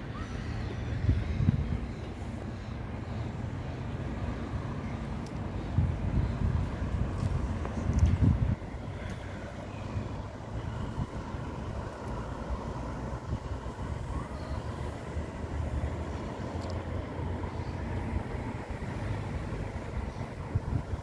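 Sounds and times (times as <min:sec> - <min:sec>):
cars driving past: 0:00.0 - 0:21.0.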